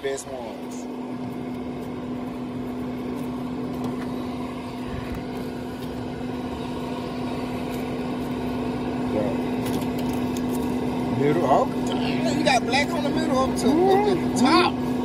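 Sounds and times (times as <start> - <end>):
smoker fan humming: 0.0 - 15.0.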